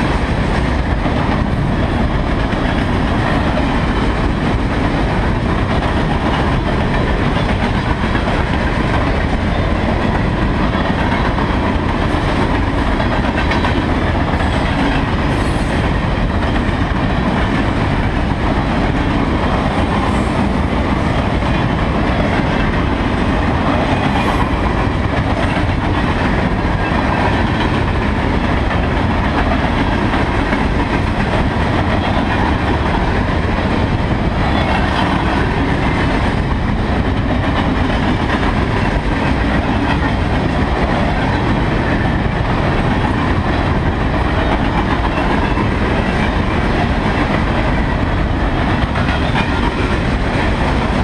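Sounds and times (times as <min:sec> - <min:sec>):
clickety-clack over track: 0:00.0 - 0:51.0
train wheels on rails: 0:00.0 - 0:51.0.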